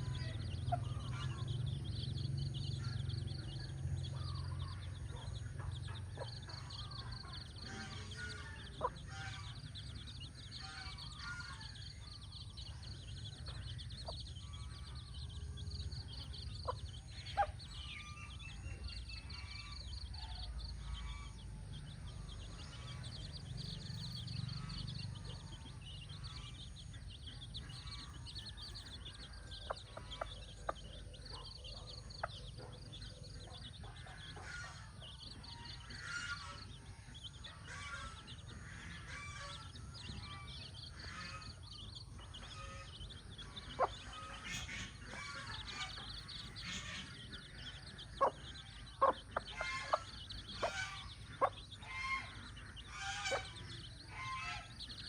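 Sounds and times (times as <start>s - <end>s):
chicks peeping: 0.0s - 55.0s
low background rumble: 0.0s - 55.0s
hen clucking: 2.7s - 21.6s, 22.2s - 55.0s.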